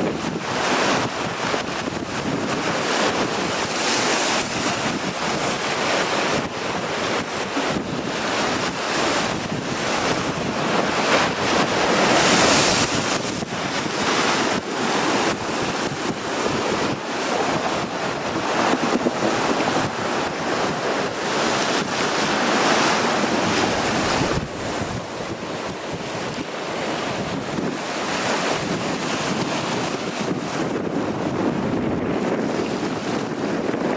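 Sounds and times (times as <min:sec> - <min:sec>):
surf roaring: 0:00.0 - 0:33.9
wind buffeting microphone: 0:00.0 - 0:33.9.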